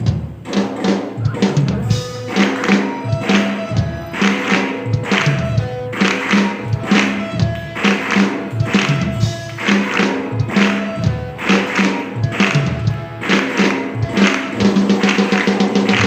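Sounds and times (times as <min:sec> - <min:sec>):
instrumental band music: 0:00.0 - 0:16.0.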